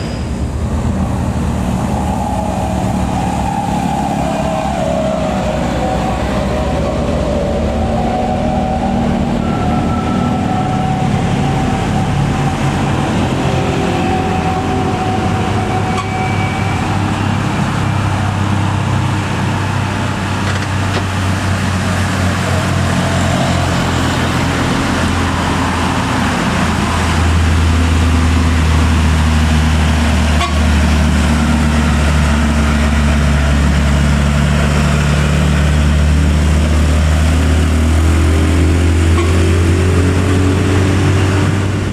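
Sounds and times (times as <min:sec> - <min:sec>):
diesel truck engines under load: 0:00.0 - 0:41.9.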